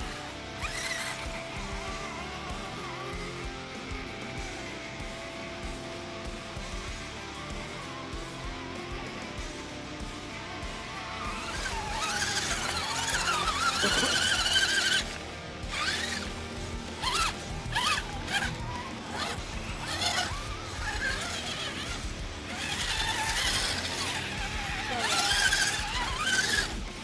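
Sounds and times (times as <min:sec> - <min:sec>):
rc truck motors whining: 0:00.0 - 0:27.0.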